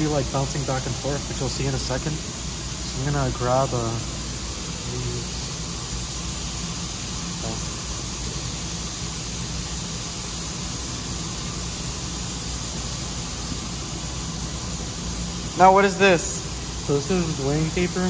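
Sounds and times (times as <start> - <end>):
air noise hiss: 0.0 - 18.0.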